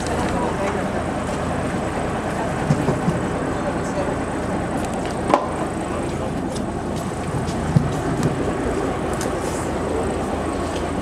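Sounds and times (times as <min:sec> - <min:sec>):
train engine running: 0:00.0 - 0:11.0.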